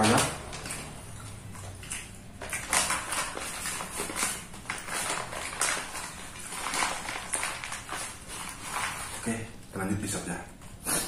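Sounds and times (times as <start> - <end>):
paper wrapping crinkling: 0.0 - 9.8.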